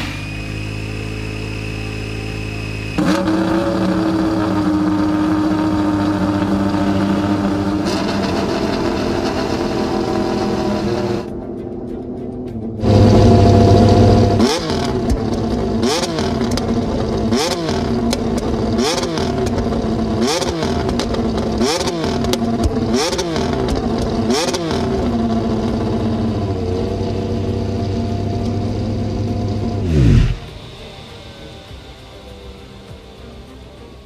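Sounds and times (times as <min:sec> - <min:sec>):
racing engine idling: 0:00.0 - 0:34.0
racing engine revving: 0:00.0 - 0:34.0.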